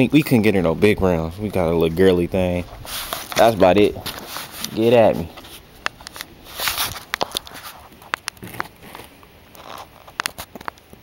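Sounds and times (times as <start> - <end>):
rustling: 0.0 - 11.0.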